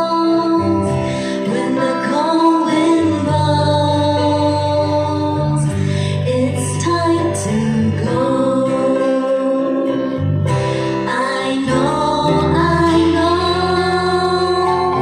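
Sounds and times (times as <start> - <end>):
acoustic guitar: 0.0 - 15.0
woman singing a ballad: 0.0 - 15.0.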